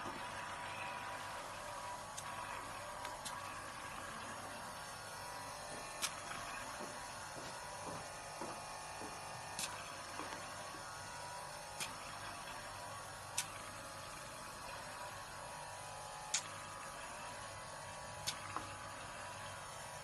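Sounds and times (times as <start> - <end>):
pump humming and hissing: 0.0 - 20.0.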